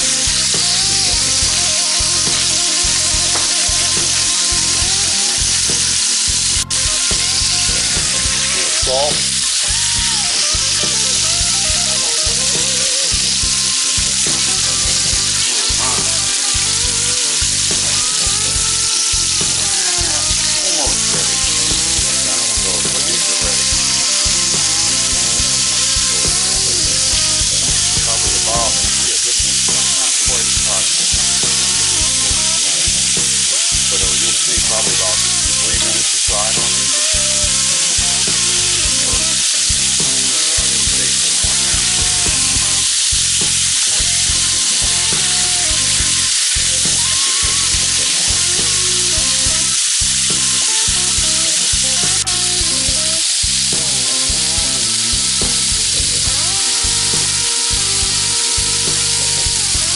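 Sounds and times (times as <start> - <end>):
steaks sizzling in grill pan: 0.0 - 59.9.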